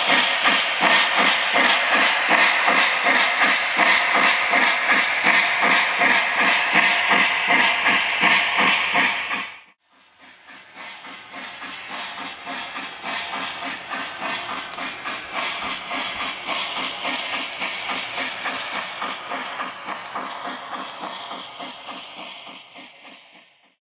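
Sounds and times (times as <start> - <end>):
steam hiss: 0.0 - 23.8
steam locomotive chuffing: 0.0 - 23.8.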